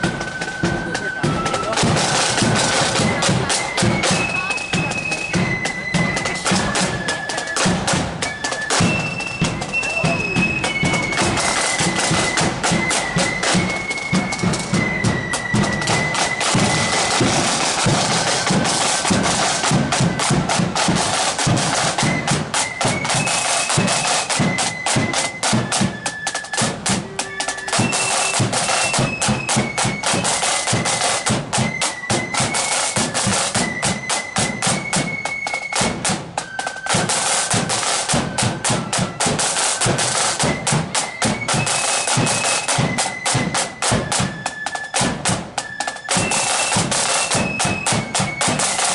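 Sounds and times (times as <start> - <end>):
fast snare drumming: 0.0 - 48.9
shrill flute melody: 0.0 - 48.9.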